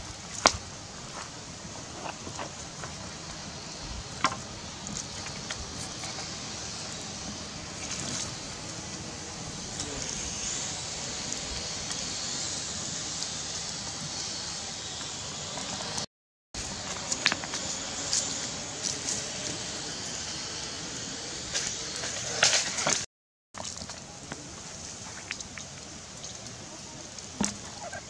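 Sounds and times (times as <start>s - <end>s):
wood fire crackling: 0.0s - 23.0s, 23.6s - 28.0s.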